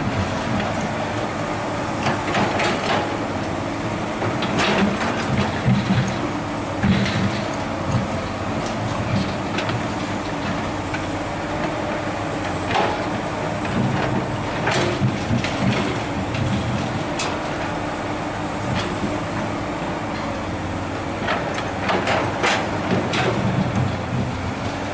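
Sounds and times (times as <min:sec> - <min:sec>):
excavator diesel engine: 0:00.0 - 0:24.9.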